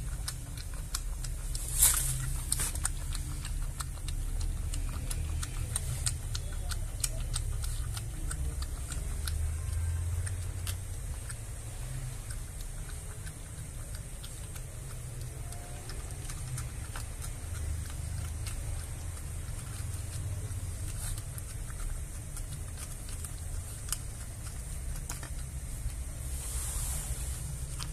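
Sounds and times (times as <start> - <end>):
low steady rumble: 0.0 - 27.9
puppy lapping milk: 0.0 - 27.9.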